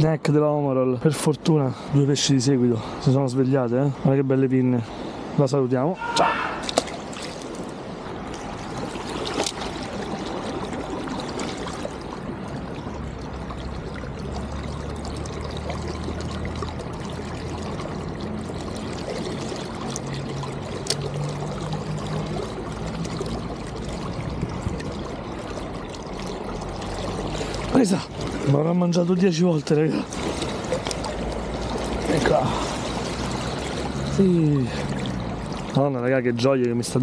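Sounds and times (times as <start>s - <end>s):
stream water rushing: 0.0s - 37.0s.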